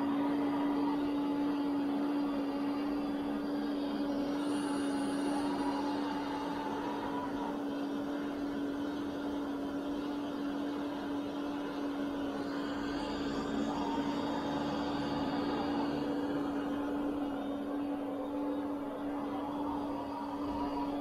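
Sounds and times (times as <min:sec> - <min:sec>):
faint high whine: 0:00.0 - 0:21.0.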